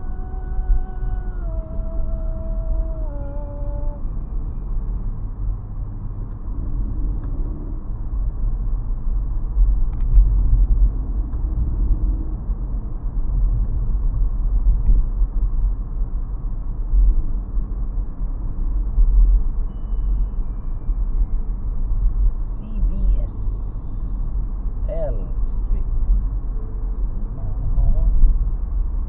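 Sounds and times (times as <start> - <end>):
car road rumble: 0.0 - 29.0.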